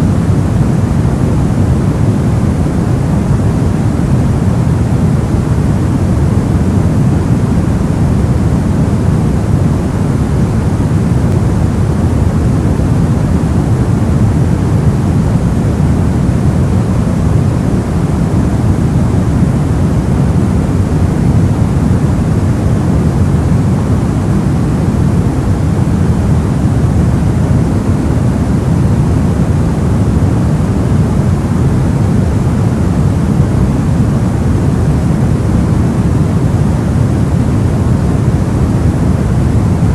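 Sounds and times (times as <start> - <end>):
soft low white noise: 0.0 - 39.9.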